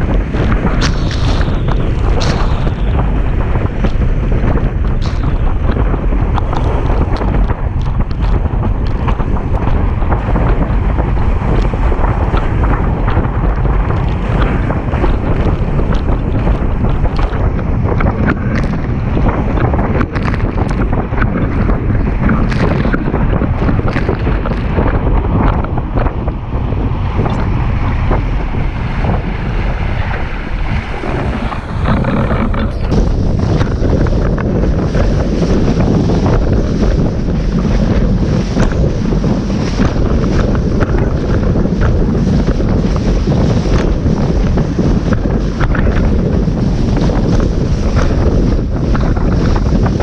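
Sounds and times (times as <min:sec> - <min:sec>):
water rushing under board: 0:00.0 - 0:50.0
wind buffeting microphone: 0:00.0 - 0:50.0.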